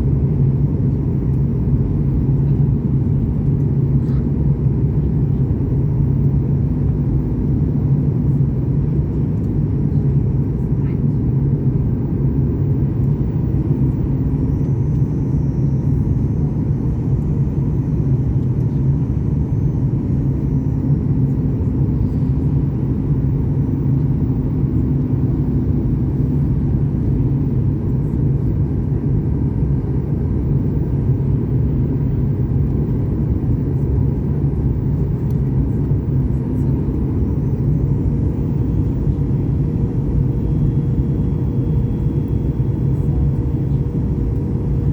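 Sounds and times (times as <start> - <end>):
airliner cabin engine drone: 0.0 - 44.9.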